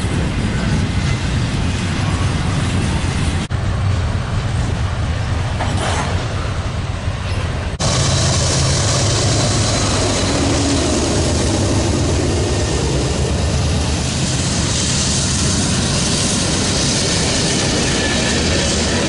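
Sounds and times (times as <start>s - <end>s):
diesel locomotives engine drone: 0.0s - 19.0s
train cars rolling on rails: 0.0s - 19.0s.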